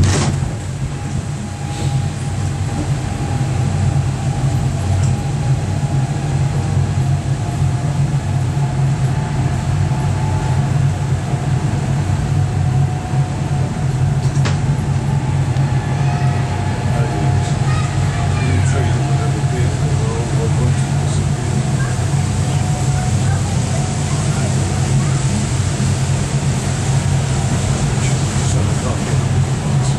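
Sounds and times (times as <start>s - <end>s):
train engine droning: 0.0s - 29.9s.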